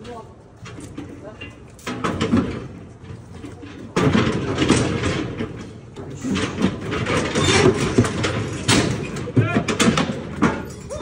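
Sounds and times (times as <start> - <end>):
steel gate clattering: 0.7 - 11.0.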